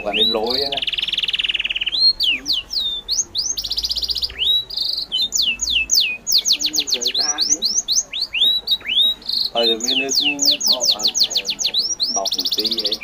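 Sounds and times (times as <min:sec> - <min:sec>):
birds whistling downward notes: 0:00.0 - 0:13.0
buzzy bird trills: 0:00.0 - 0:13.0.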